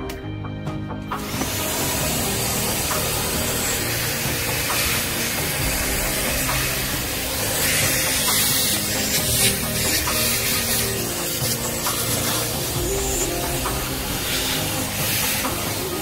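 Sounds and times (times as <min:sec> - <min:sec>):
vacuum cleaner hissing: 0:01.1 - 0:16.0.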